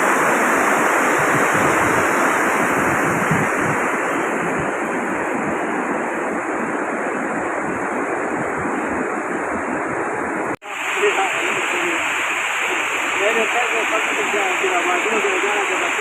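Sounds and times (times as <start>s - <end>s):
fast-flowing water rushing: 0.0s - 16.0s.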